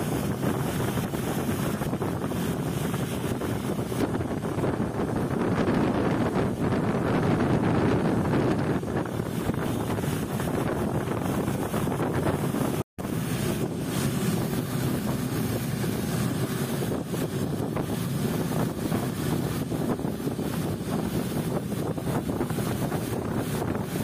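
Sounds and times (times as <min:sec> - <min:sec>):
boat engine drone: 0:00.0 - 0:24.0
water rushing past: 0:00.0 - 0:24.0
wind buffeting microphone: 0:00.0 - 0:24.0.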